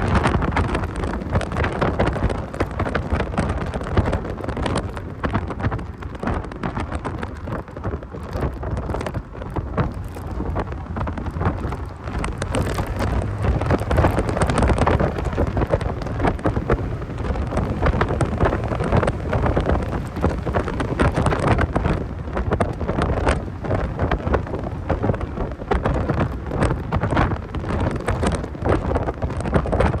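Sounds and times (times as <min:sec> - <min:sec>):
engine rumble: 0:00.0 - 0:30.0
road noise: 0:00.0 - 0:30.0
wind buffeting microphone: 0:00.0 - 0:30.0.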